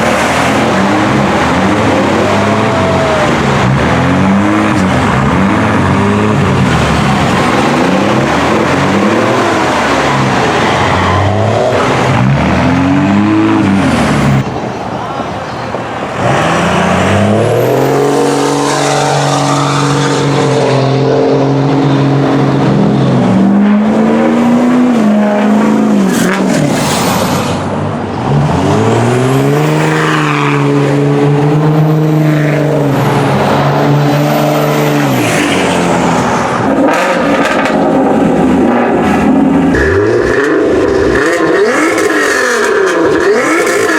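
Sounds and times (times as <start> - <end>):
car engine revving: 0.0 - 14.8, 15.9 - 43.9.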